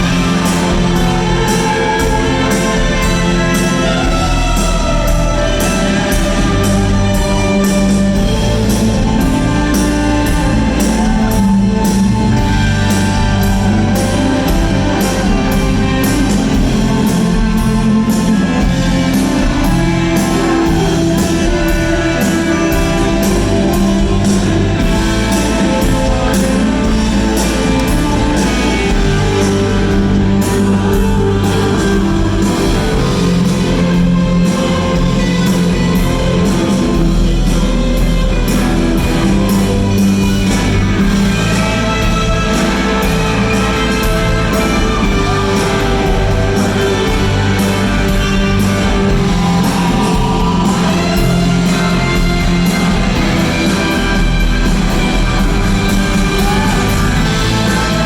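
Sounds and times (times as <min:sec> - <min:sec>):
bass guitar: 0:00.0 - 0:58.0
electric guitars: 0:00.0 - 0:58.0
steady drum beat: 0:00.0 - 0:58.0.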